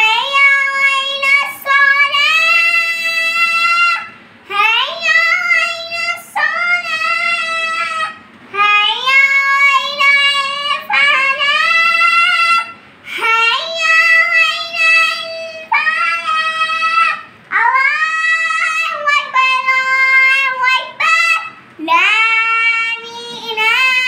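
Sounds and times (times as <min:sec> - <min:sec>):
boy chanting call to prayer: 0:00.0 - 0:24.0.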